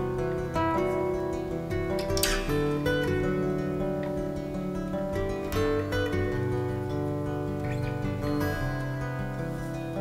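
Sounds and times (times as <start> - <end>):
acoustic guitars strumming chords: 0.0 - 10.0.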